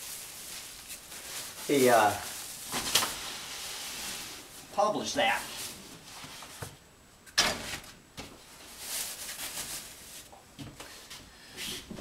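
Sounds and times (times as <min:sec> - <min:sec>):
rustling: 0:00.0 - 0:06.8, 0:07.7 - 0:11.9.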